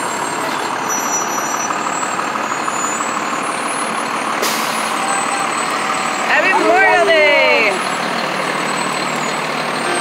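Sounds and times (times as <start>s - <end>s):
fire engine running: 0.0s - 10.0s.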